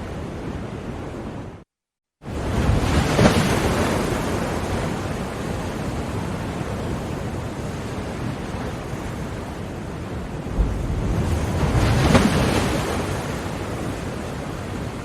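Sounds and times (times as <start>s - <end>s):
ocean waves breaking: 2.2s - 15.0s.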